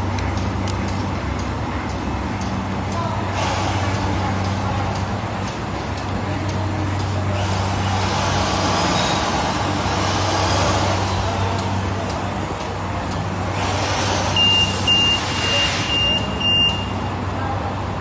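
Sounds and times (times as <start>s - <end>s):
bag-making machine running: 0.0s - 16.8s.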